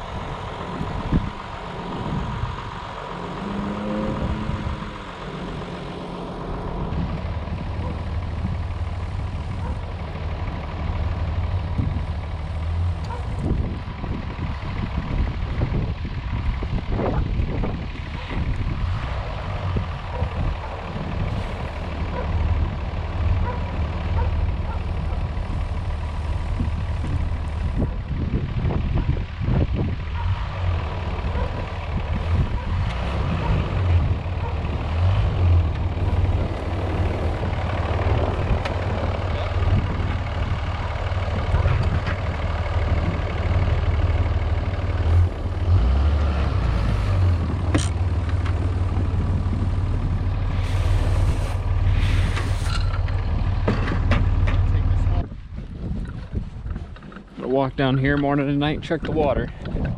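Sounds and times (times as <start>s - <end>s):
tractor engine rumbling: 0.0s - 59.9s.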